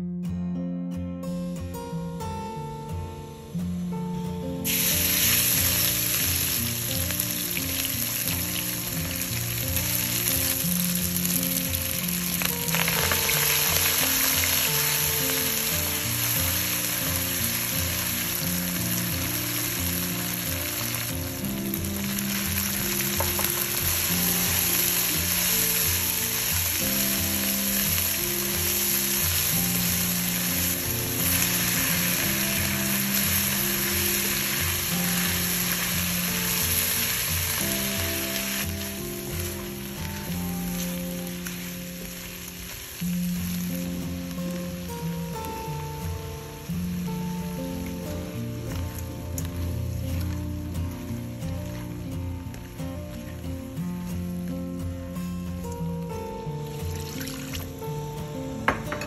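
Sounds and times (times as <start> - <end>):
background music: 0.0 - 59.0
aromatics sizzling in a wok: 2.3 - 59.0.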